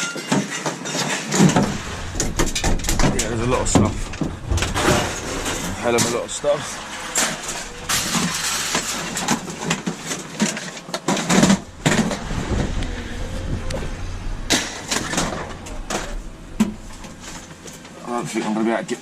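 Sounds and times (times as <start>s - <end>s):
scrap metal clanking and scraping: 0.0s - 18.7s
low rumble: 1.5s - 18.6s.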